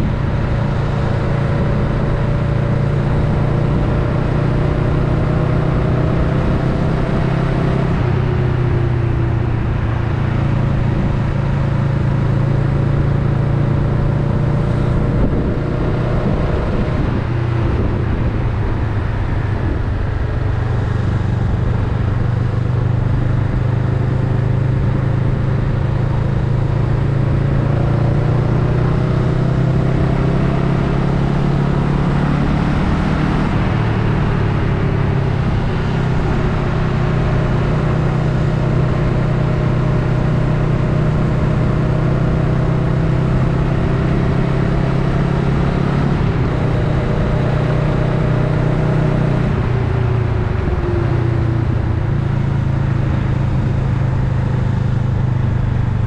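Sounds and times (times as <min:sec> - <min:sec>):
motorcycle engine running: 0:00.0 - 0:32.2, 0:32.8 - 0:56.0.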